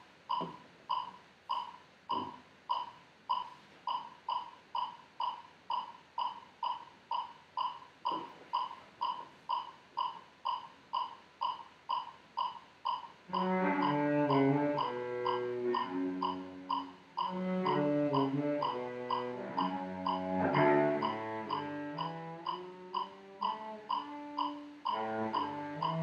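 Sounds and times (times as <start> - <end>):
electronic metronome beeps: 0.3 - 26.0.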